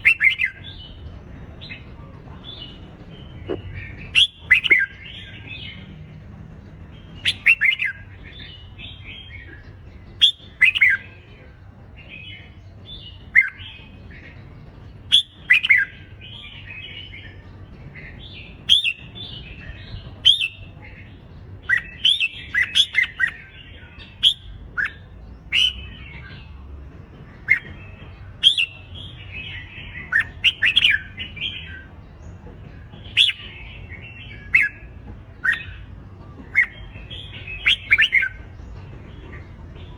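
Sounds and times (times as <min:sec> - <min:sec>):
bulbuls whistled song: 0:00.0 - 0:39.9.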